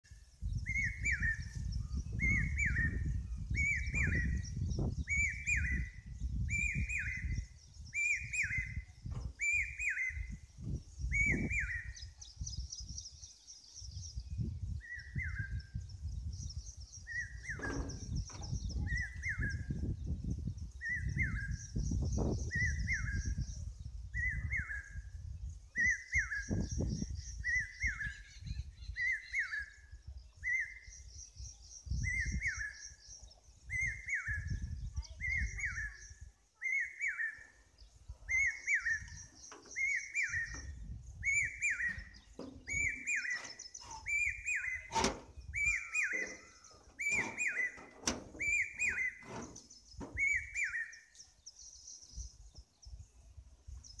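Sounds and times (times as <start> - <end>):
shrill whistled bird call: 0.5 - 20.0, 25.8 - 52.4.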